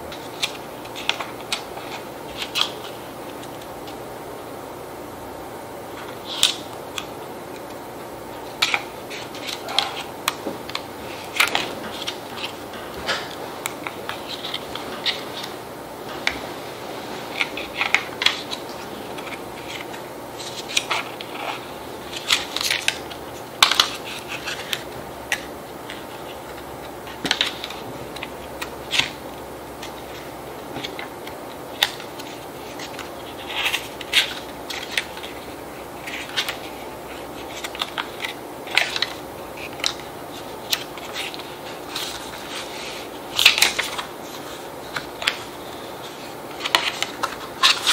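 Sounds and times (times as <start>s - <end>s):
paper rustling and crinkling: 0.1s - 4.0s, 8.4s - 47.9s.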